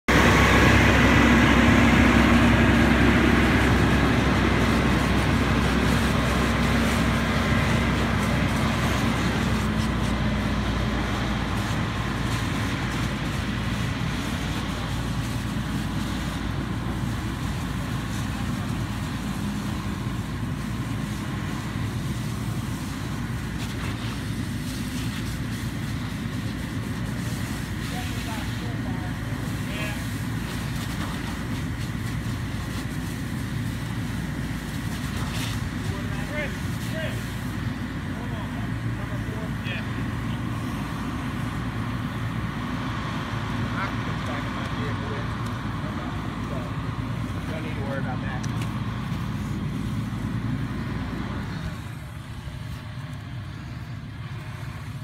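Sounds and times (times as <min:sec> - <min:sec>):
fire engine drone: 0:00.0 - 0:55.0
pump whine: 0:00.0 - 0:55.0.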